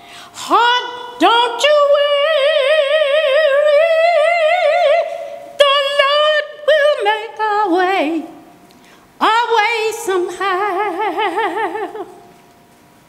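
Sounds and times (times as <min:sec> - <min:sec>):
woman singing a hymn: 0:00.2 - 0:08.5, 0:09.2 - 0:12.3.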